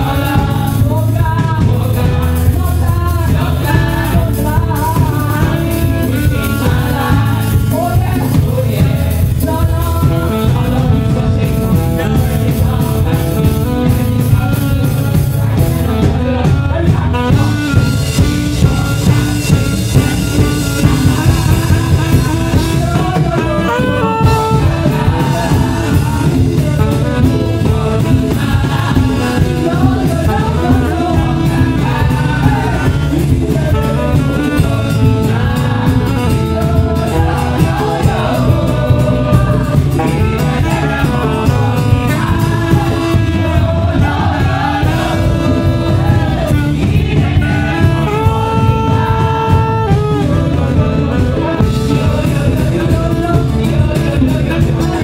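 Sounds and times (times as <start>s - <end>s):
bass: 0.0s - 55.0s
drum kit beat: 0.0s - 55.0s
saxophone melody: 0.0s - 55.0s.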